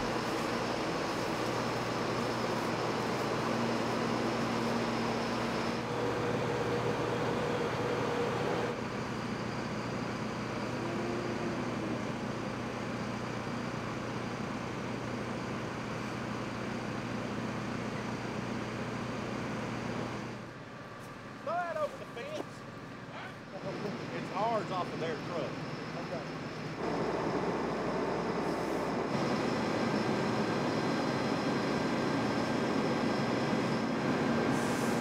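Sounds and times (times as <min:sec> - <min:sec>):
engine drone with low hum: 0:00.0 - 0:35.0.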